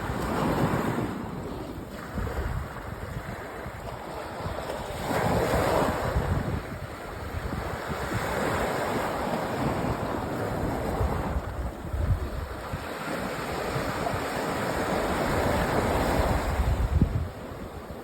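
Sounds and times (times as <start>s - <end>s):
sea waves breaking on beach: 0.0s - 18.0s
wind rumbling on microphone: 0.0s - 18.0s.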